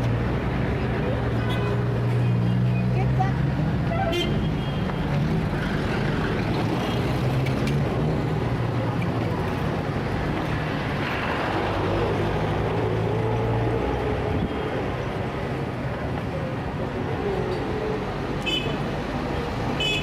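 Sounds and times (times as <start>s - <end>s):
drone of traffic engines: 0.0s - 20.0s.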